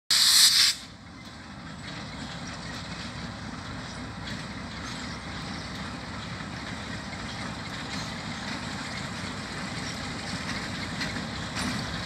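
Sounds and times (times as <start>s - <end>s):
distant freight train rumble: 0.1s - 12.0s.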